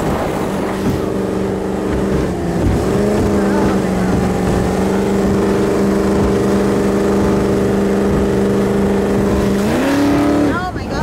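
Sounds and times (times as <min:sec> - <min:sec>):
powerboat engine running: 0:00.0 - 0:11.0
wind and water rushing: 0:00.0 - 0:11.0.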